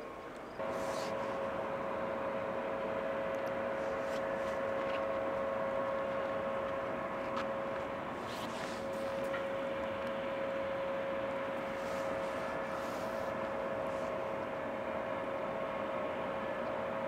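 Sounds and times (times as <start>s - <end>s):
distant jet airliner drone: 0.0s - 17.0s.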